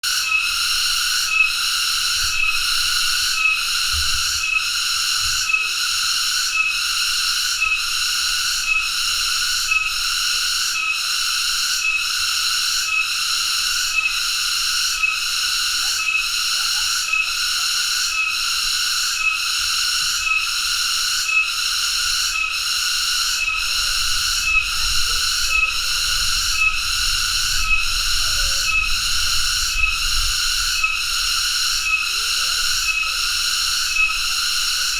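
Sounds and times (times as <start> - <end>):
cicada buzzing: 0.0 - 34.9.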